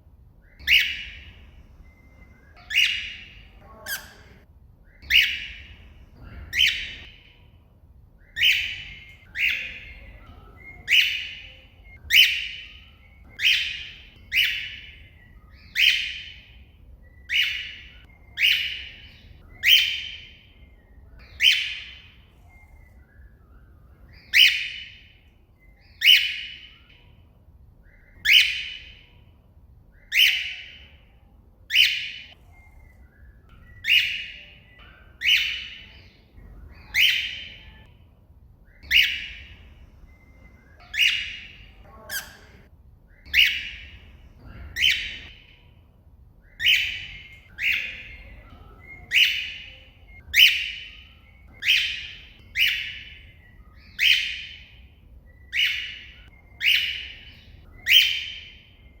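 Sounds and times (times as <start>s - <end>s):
cockatiel calling: 0.4s - 7.4s, 8.2s - 27.0s, 27.8s - 29.1s, 30.0s - 37.9s, 38.7s - 45.6s, 46.4s - 59.0s.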